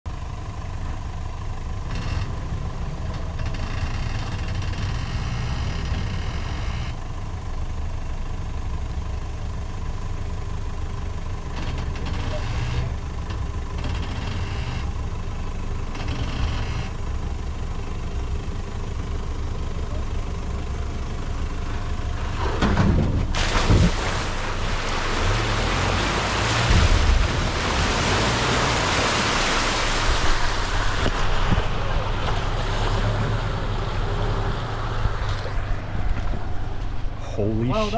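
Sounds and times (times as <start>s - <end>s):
vehicle engine running low: 0.1s - 37.9s.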